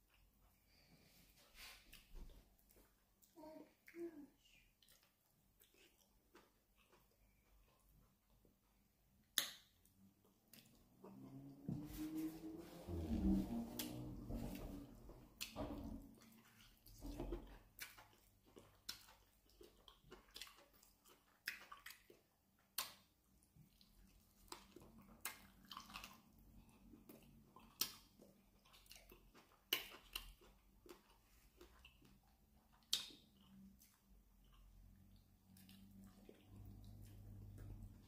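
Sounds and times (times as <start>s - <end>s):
chewing and lip-smacking: 1.9s - 11.6s, 13.7s - 38.0s.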